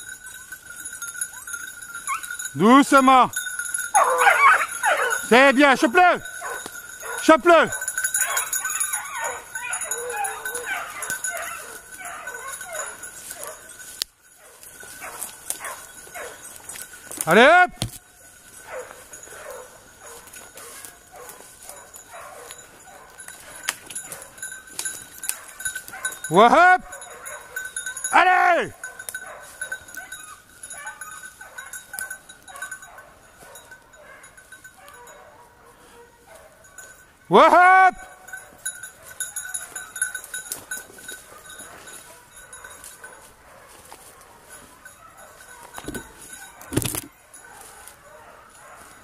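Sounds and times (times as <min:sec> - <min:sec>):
collar bell jingling: 0:00.0 - 0:49.0
hounds yelping: 0:00.0 - 0:49.0.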